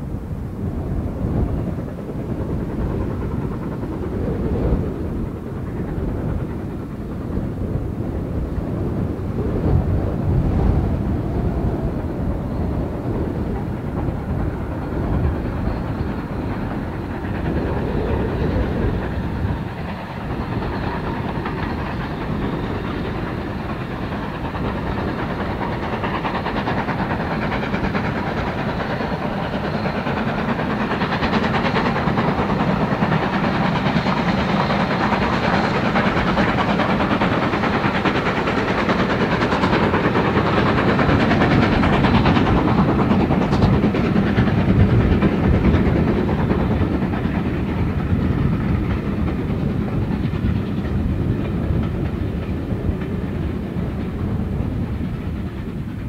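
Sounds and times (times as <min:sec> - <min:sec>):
steam locomotive exhausts: 0:00.0 - 0:56.0
train running on rails: 0:00.0 - 0:56.0.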